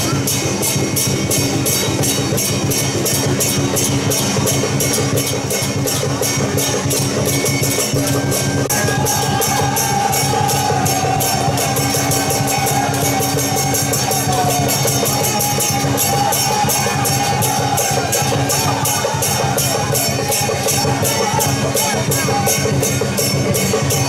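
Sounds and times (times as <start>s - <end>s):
drums and cymbals beat: 0.0s - 24.0s.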